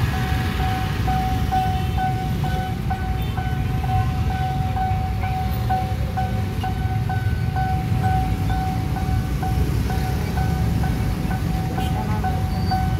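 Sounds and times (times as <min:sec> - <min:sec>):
motorcycle and car engines rumbling: 0:00.0 - 0:12.9
railroad crossing bell ringing: 0:00.0 - 0:12.9.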